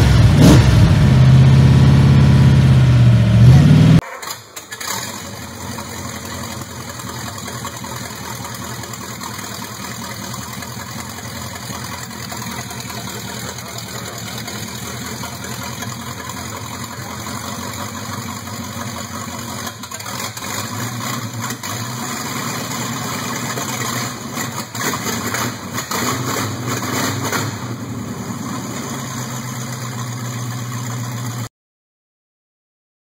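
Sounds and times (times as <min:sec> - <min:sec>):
car engine idling and revving: 0:00.0 - 0:31.5.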